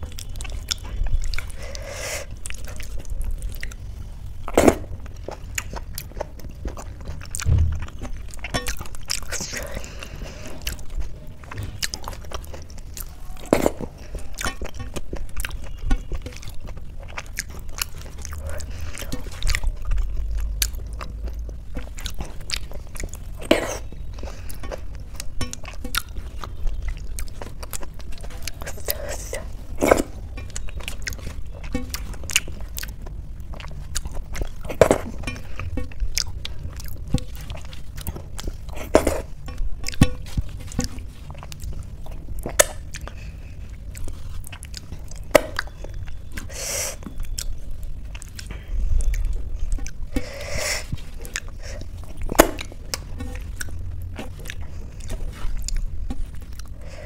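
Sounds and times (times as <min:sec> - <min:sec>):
chewing and mouth sounds: 0:00.0 - 0:57.0
fingers squishing soft food: 0:00.0 - 0:57.0.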